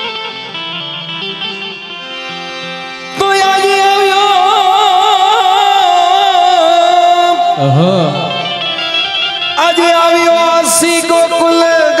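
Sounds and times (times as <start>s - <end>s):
devotional music with held notes: 0.0s - 12.0s.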